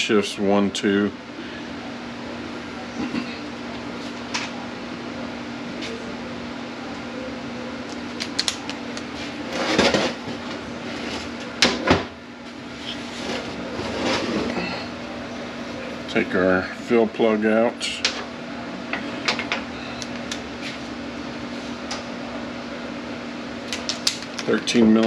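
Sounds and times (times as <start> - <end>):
steady shop hum: 0.0 - 25.0.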